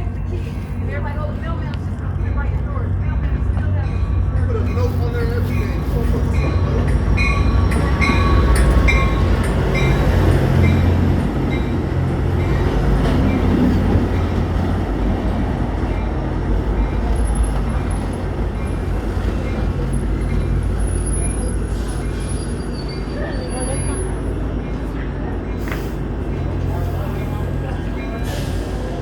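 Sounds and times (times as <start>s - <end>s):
train passing with low rumble: 0.0s - 29.0s.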